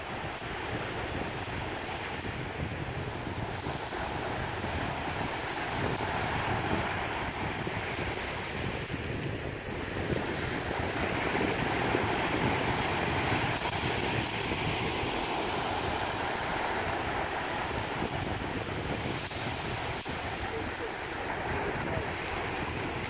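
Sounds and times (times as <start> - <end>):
small waves washing: 0.0 - 23.0
wind buffeting microphone: 0.0 - 23.0.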